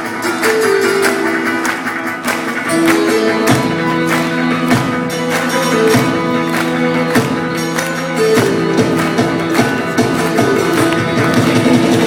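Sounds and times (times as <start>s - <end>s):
band music with steady beat: 0.0s - 12.0s
guitar plucked and strummed: 0.0s - 12.0s.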